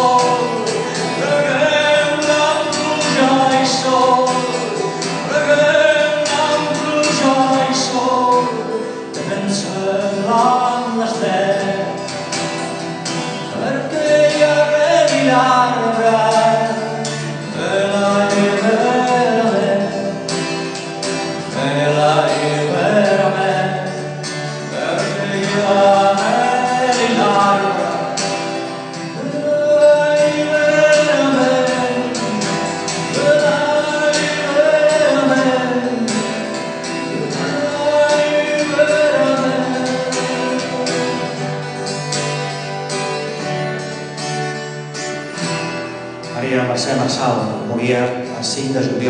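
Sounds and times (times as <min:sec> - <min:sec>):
man singing: 0:00.0 - 0:42.8, 0:46.3 - 0:49.0
acoustic guitar: 0:00.0 - 0:49.0.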